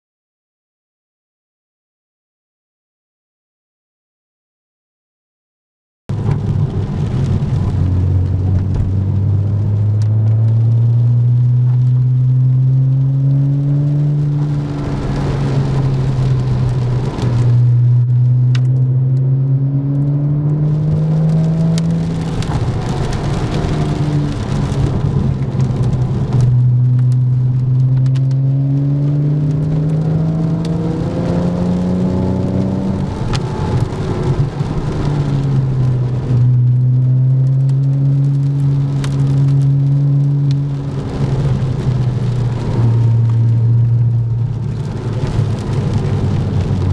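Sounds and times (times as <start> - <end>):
wet tyres hissing in rain: 6.1 - 19.1, 20.6 - 46.9
sports car engine accelerating: 6.4 - 46.9.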